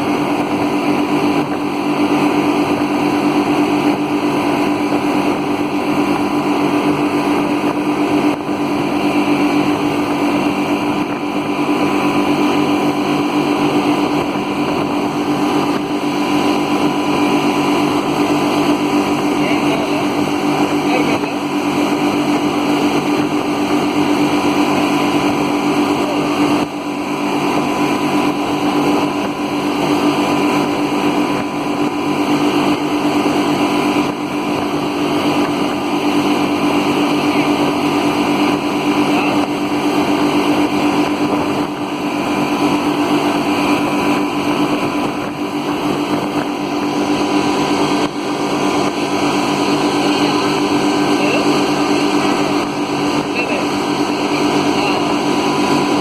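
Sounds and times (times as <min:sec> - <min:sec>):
rush of water noise: 0:00.0 - 0:56.0
speedboat engine drone: 0:00.0 - 0:56.0.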